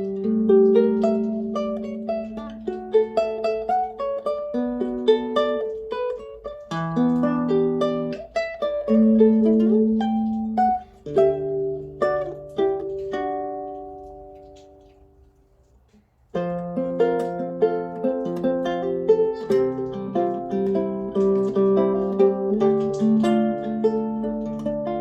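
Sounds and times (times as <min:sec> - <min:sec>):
small nylon-string guitar playing: 0:00.0 - 0:15.2, 0:16.3 - 0:25.0.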